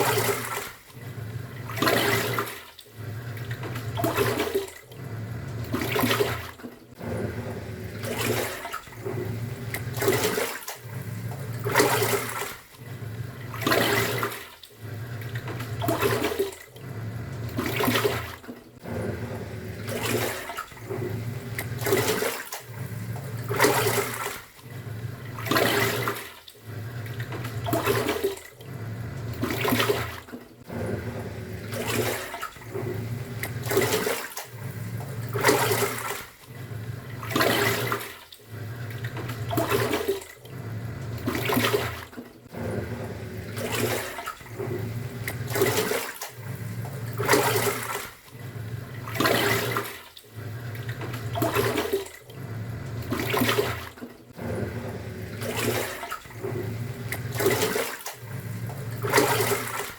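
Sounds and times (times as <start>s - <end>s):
washing machine motor humming: 0.0s - 59.9s
water sloshing: 0.0s - 59.9s.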